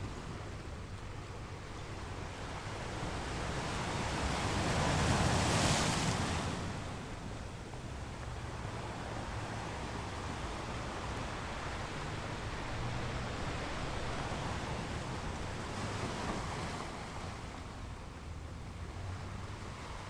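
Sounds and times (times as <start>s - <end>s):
waves washing onto beach: 2.1s - 20.0s.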